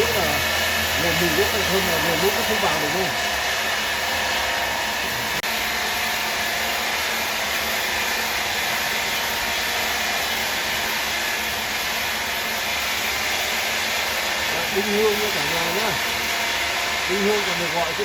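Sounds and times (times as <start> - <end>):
woodworking machine whooshing: 0.0 - 18.0.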